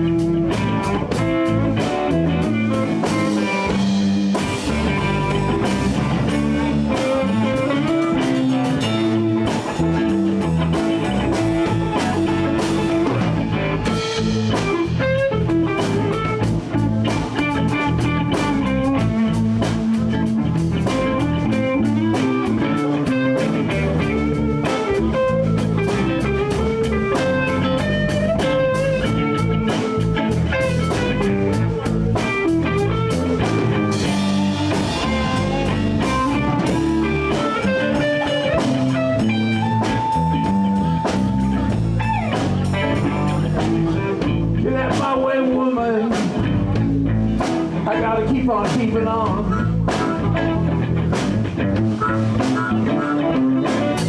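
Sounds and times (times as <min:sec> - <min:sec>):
drum kit beat: 0:00.0 - 0:45.3, 0:46.1 - 0:54.0
bass: 0:00.0 - 0:54.0
electric guitars: 0:00.0 - 0:54.0.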